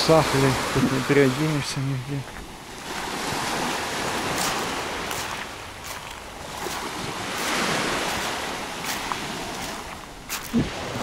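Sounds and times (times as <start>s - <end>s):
waves washing onto pebble beach: 0.0s - 11.0s.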